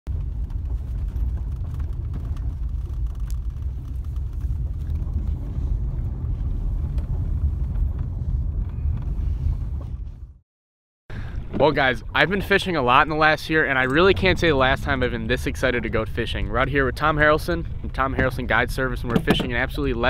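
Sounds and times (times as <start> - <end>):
car road noise rumble: 0.1 - 10.4, 11.2 - 20.0.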